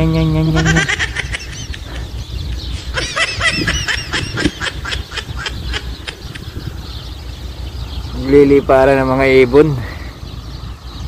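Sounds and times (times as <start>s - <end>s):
small birds chirping: 0.0s - 11.0s
wind rumbling on microphone: 0.0s - 11.0s.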